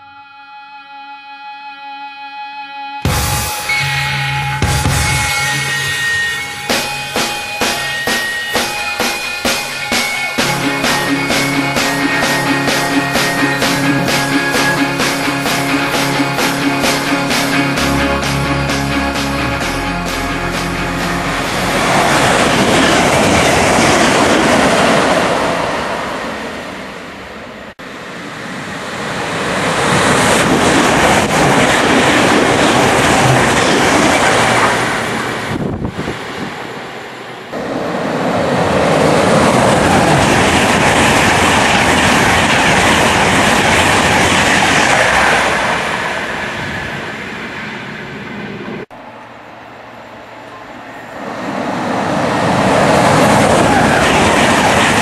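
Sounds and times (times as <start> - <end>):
train wheels rumbling on rails: 4.6 - 49.0, 51.0 - 55.0.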